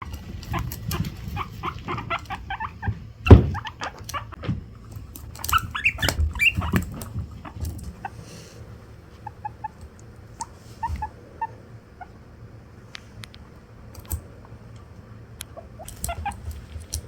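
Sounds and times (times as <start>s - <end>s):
guinea pigs squeaking: 0.0s - 17.0s.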